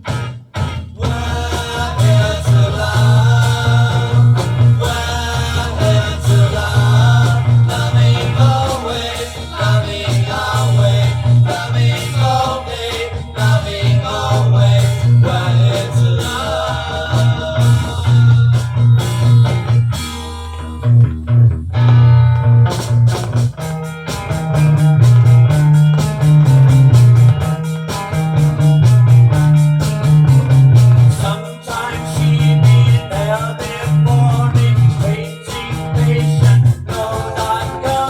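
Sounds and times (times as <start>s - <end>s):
beat-group pop song: 0.0s - 20.2s, 22.6s - 38.0s
drum beat: 0.0s - 21.3s, 21.9s - 38.0s.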